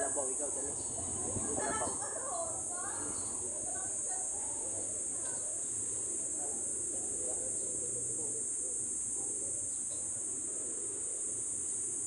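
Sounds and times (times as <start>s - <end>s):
faint low murmur: 0.0s - 12.0s.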